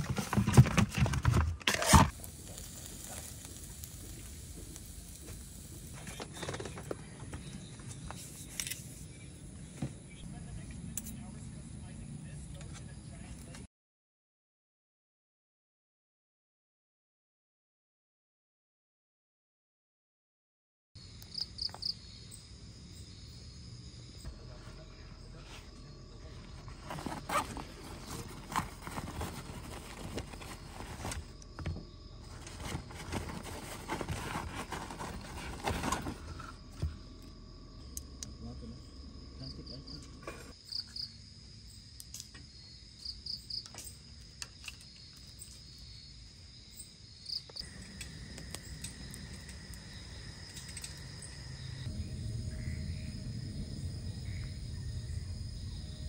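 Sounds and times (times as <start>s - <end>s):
insects chirping: 0.1s - 13.5s, 21.0s - 56.0s.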